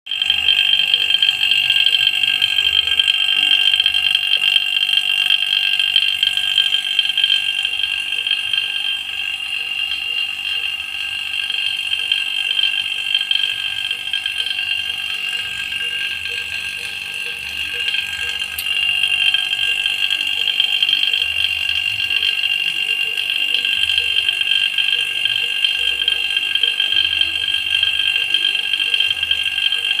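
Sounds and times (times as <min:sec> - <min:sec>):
vacuum pump whining: 0:00.0 - 0:30.0.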